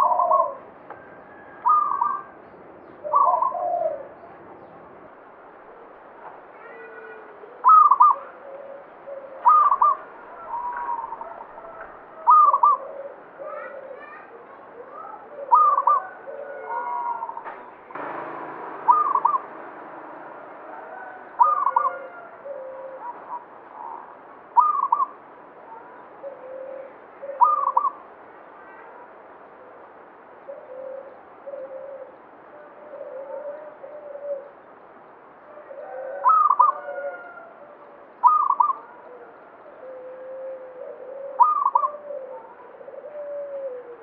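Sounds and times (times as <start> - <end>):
dove cooing: 0.0 - 2.4, 3.0 - 4.3, 6.6 - 17.5, 18.7 - 19.6, 20.6 - 28.1, 30.5 - 34.6, 35.5 - 44.0.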